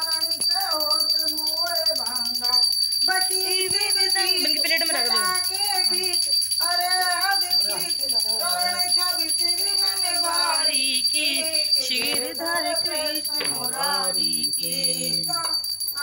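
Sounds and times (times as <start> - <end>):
people singing a hymn: 0.0 - 15.6.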